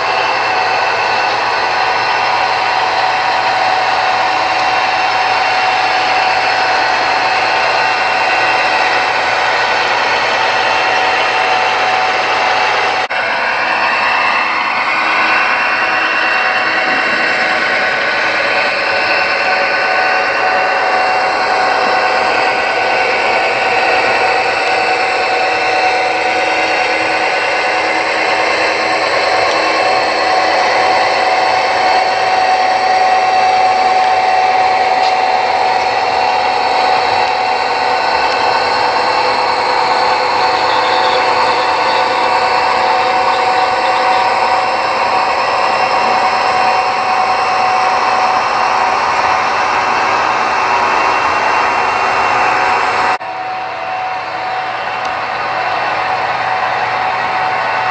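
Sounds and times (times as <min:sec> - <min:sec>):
model train wheels rolling on rails: 0:00.0 - 0:57.9
whine of small electric motors: 0:00.0 - 0:57.9.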